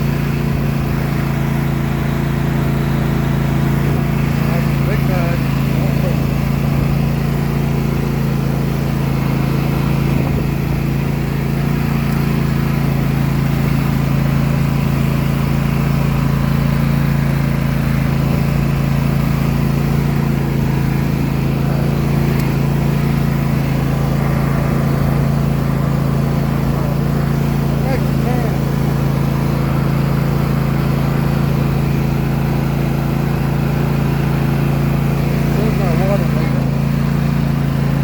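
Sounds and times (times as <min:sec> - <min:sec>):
lawn tractor engine running: 0:00.0 - 0:38.0.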